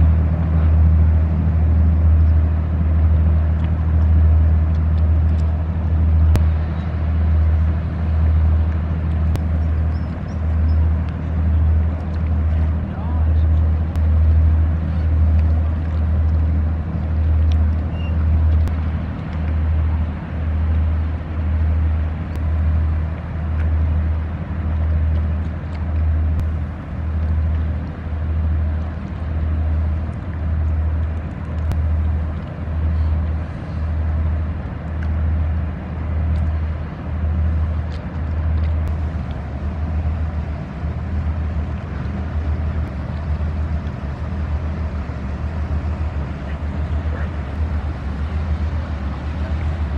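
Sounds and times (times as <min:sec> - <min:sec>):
ship diesel engine humming: 0:00.0 - 0:49.9.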